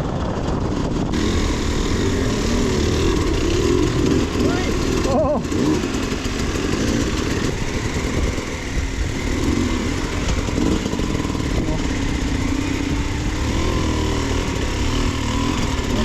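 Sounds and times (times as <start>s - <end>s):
two-stroke dirt bike engine: 0.0s - 16.0s.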